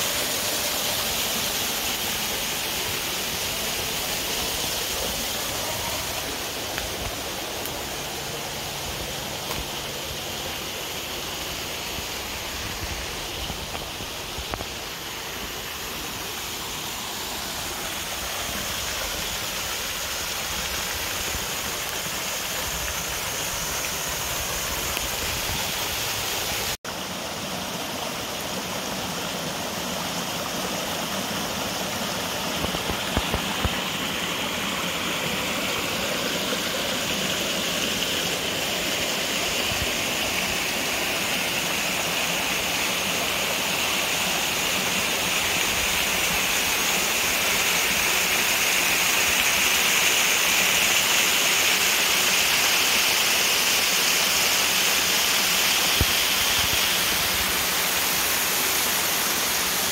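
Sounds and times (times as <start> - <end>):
creek rushing over rocks: 0.0 - 59.9.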